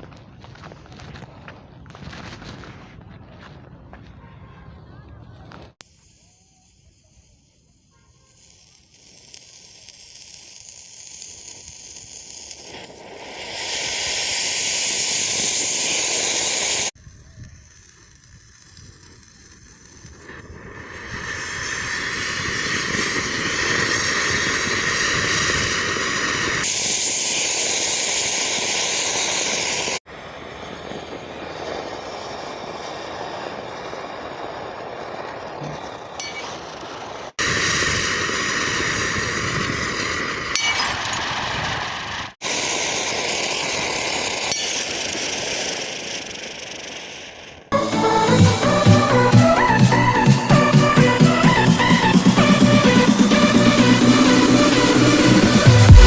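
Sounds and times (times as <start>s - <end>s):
fountain firework hissing: 5.6s - 56.0s.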